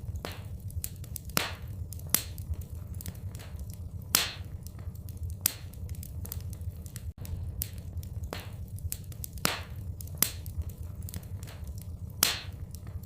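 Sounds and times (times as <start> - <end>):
low rumble: 0.0 - 13.0
wood fire crackling and popping: 0.0 - 13.0.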